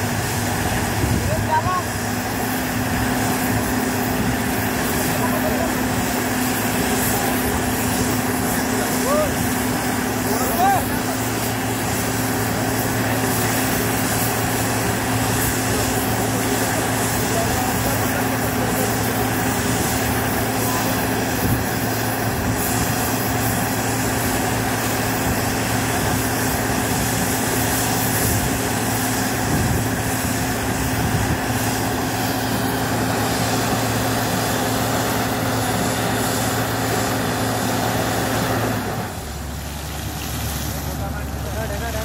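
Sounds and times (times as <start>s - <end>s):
rushing hiss: 0.0s - 42.0s.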